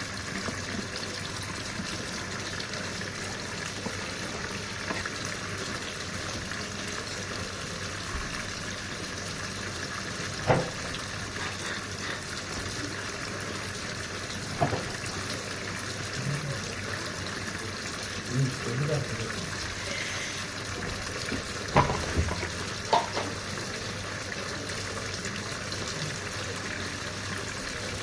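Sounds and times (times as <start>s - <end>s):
water rushing into washing machine: 0.0s - 28.0s.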